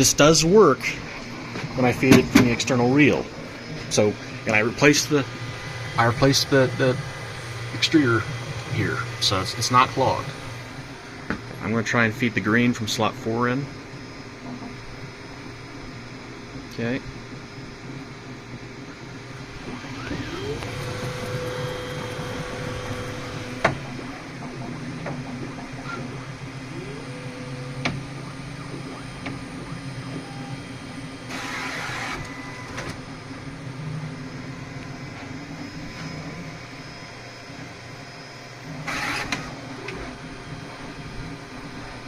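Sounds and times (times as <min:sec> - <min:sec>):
steady machine hum: 0:00.0 - 0:42.0
stepper motor whine: 0:00.0 - 0:42.0.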